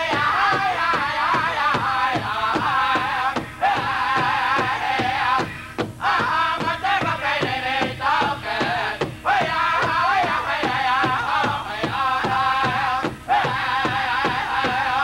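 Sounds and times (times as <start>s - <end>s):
group singing high-pitched unison: 0.0s - 15.0s
large drum steady beat: 0.0s - 15.0s.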